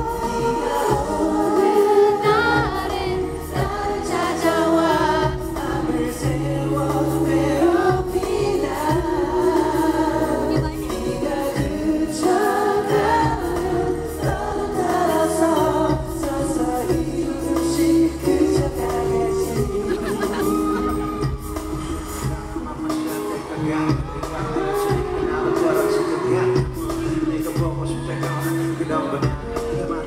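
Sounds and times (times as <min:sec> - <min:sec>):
backing track: 0:00.0 - 0:30.0
male group singing pop ballad: 0:00.0 - 0:30.0.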